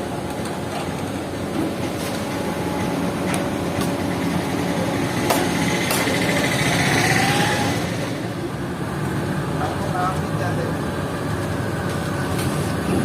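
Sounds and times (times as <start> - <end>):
passing traffic engine rumble: 0.0 - 13.0.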